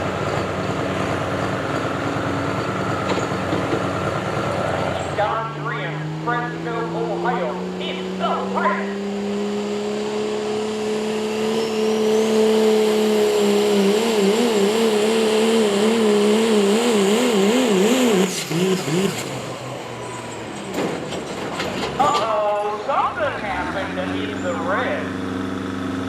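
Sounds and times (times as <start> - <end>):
high-revving truck engine: 0.0 - 26.0.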